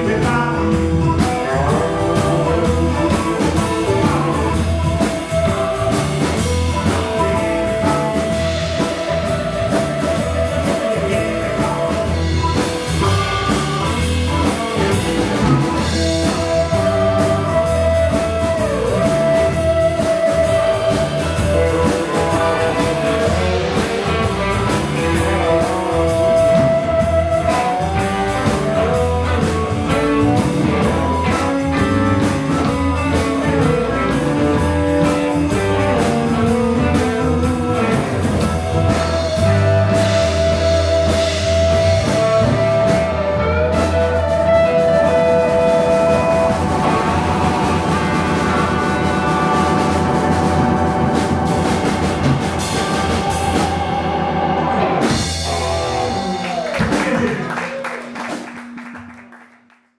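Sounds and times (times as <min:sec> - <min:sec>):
bending electric guitar lead notes: 0:00.0 - 0:57.6
live blues band playing: 0:00.0 - 0:59.1.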